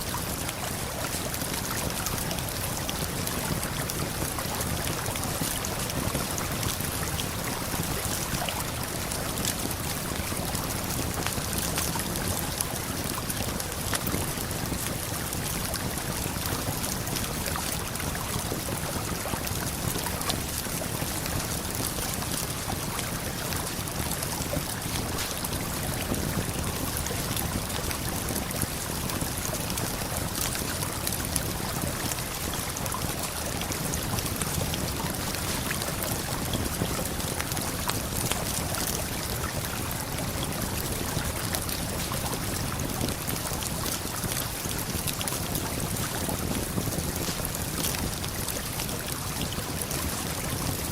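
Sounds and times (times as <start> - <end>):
campfire crackling: 8.7 - 50.8.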